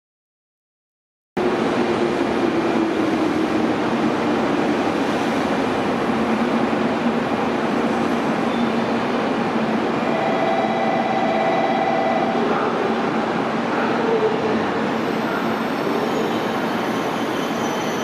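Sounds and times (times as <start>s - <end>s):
freight train rail rumble: 1.4s - 18.0s.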